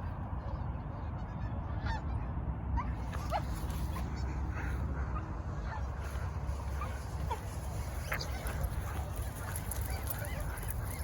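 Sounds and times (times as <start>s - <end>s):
steady low rumble: 0.0s - 11.0s
distant geese honking: 0.4s - 11.0s.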